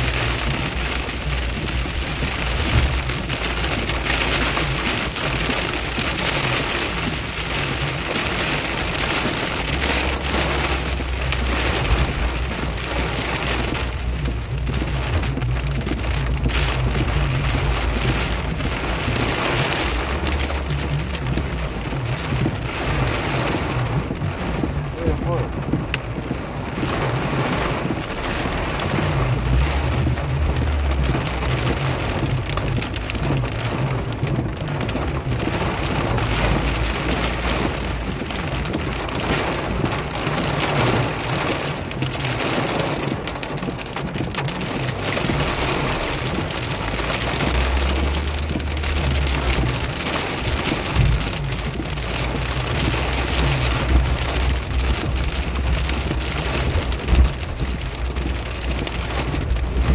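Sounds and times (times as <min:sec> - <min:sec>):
car engine and road rumble: 0:00.0 - 0:59.9
rain and tyres on wet road: 0:00.0 - 0:59.9.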